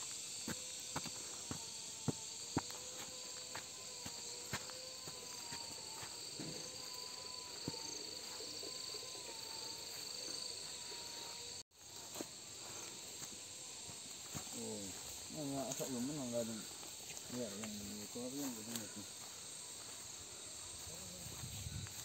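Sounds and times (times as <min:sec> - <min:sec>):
insects droning: 0:00.0 - 0:22.0
soft footsteps on grass: 0:00.0 - 0:22.0.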